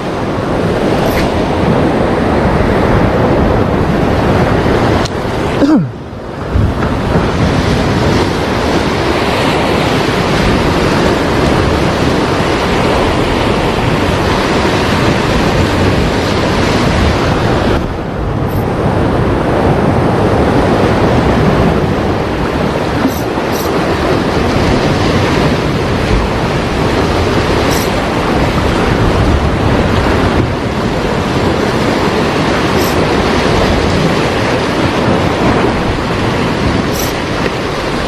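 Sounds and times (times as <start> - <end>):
waves breaking on shore: 0.0 - 38.0.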